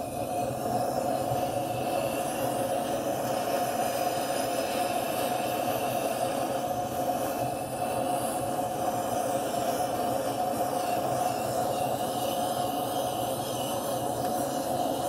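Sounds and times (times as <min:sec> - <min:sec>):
gas torch flame rushing: 0:00.0 - 0:15.0.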